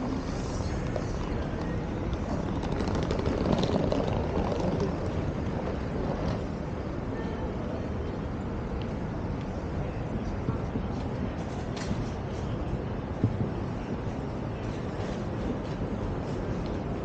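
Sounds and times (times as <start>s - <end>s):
rumble of street traffic: 0.0s - 17.0s.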